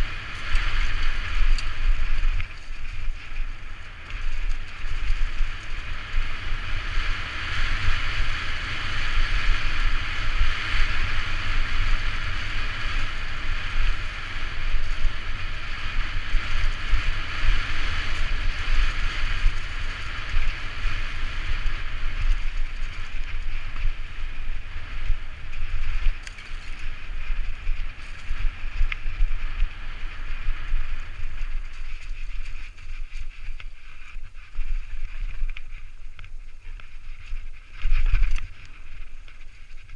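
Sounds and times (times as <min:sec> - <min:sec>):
bike tyres rolling on dirt trail: 0:00.0 - 0:39.9
wind buffeting microphone: 0:00.0 - 0:39.9.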